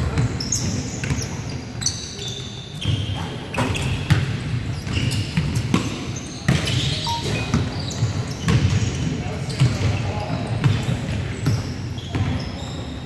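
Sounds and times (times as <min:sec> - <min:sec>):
sneakers squeaking: 0:00.0 - 0:13.0.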